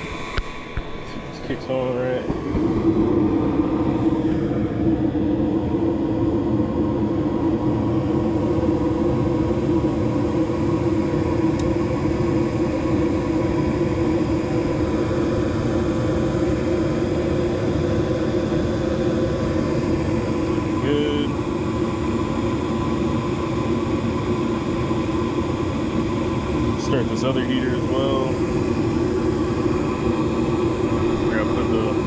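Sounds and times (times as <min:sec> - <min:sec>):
furnace rumbling: 0:00.0 - 0:32.0.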